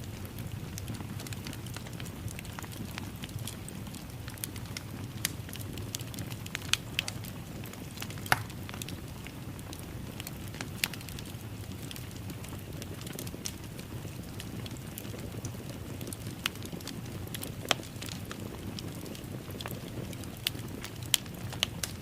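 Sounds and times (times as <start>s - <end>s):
fire crackling with pops: 0.0s - 22.0s.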